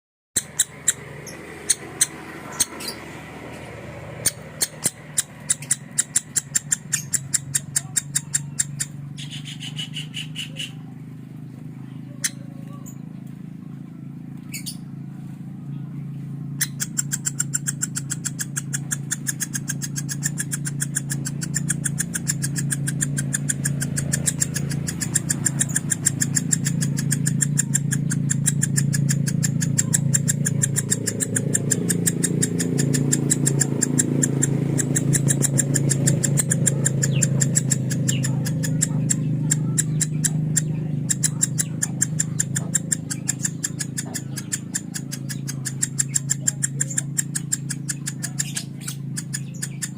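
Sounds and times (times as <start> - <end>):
lovebird clicking chatter song: 0.4 - 13.4, 14.3 - 15.0, 16.4 - 49.9
steady low hum: 0.4 - 49.9.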